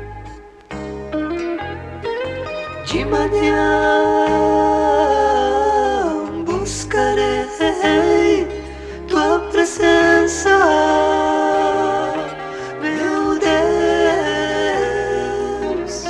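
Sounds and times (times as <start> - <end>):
bass and band accompaniment: 0.0 - 16.0
vocal group singing in harmony: 2.9 - 16.0.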